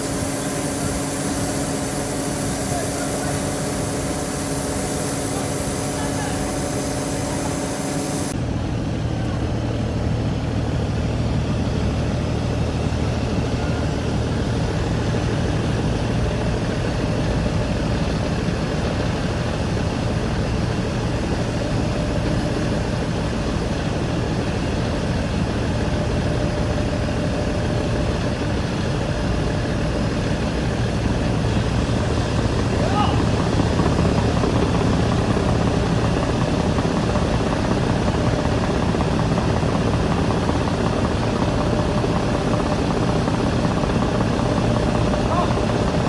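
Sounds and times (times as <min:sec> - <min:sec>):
diesel engine droning: 0:00.0 - 0:38.3.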